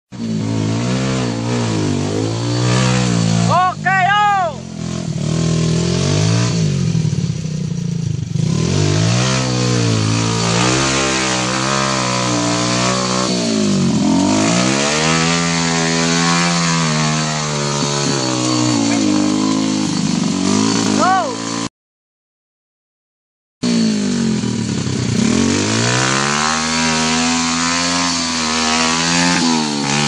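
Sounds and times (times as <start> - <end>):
motorcycle engine revving: 0.1 - 21.7, 23.6 - 30.0.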